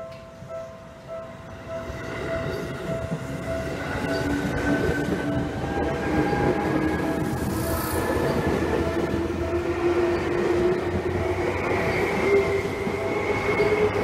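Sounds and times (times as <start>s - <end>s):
thin train whine: 0.0s - 14.0s
train wheels rumbling on rail: 0.0s - 14.0s.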